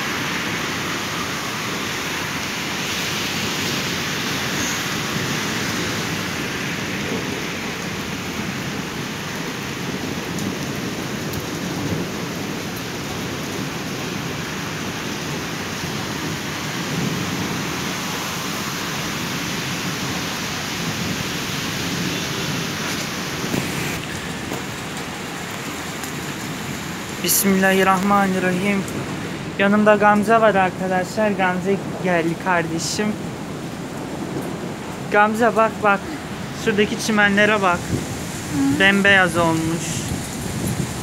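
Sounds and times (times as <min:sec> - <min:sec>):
heavy rain and hail: 0:00.0 - 0:41.0.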